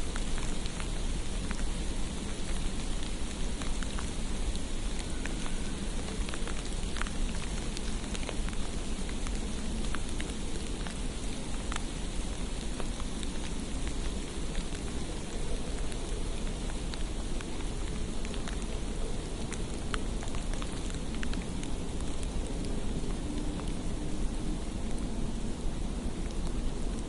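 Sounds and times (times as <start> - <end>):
faint low rumble: 0.0 - 27.0
rain on a street: 0.0 - 27.0.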